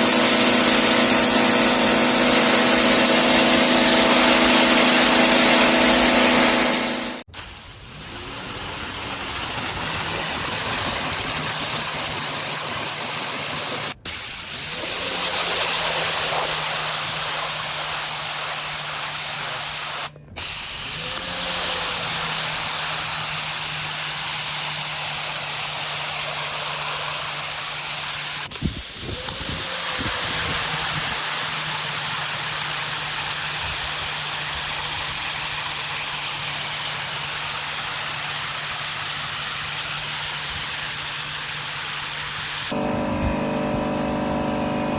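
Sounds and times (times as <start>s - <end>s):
water jet hissing: 0.0s - 42.8s
pressure washer motor hum: 0.0s - 44.9s.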